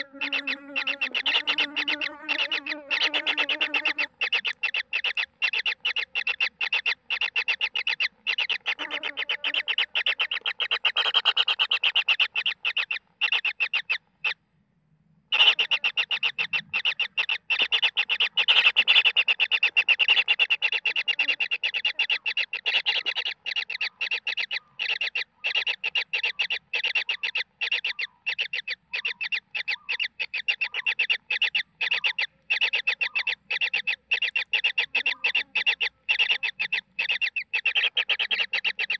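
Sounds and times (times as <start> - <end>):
nestlings rasping begging calls: 0.0 - 14.4, 15.3 - 38.9.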